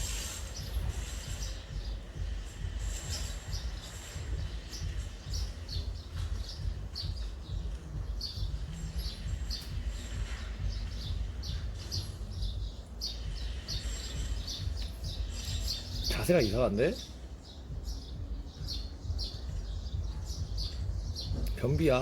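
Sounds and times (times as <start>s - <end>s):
constant low rumble: 0.0s - 22.0s
small birds chirping: 0.0s - 22.0s.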